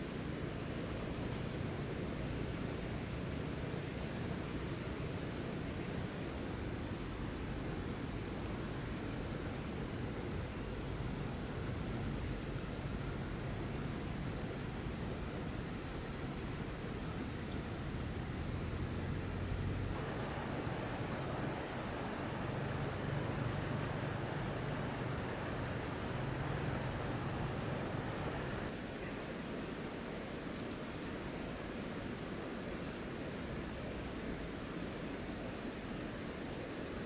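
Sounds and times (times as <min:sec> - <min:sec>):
insects trilling: 0:00.0 - 0:37.0
outdoor hiss: 0:00.0 - 0:37.0.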